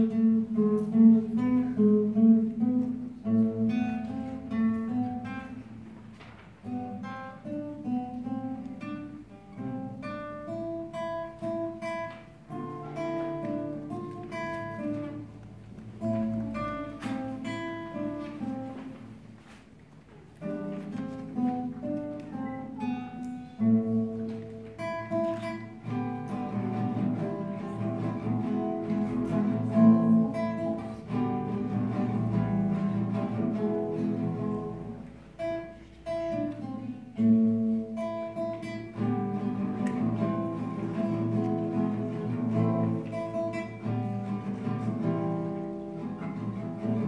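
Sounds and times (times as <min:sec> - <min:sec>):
classical guitar fingerstyle: 0:00.0 - 0:47.0.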